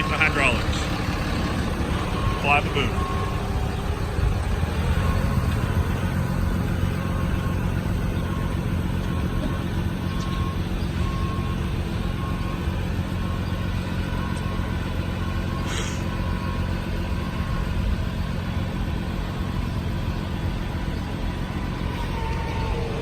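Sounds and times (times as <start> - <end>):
diesel truck engine idling: 0.0 - 23.0
hydraulic whine: 0.0 - 23.0.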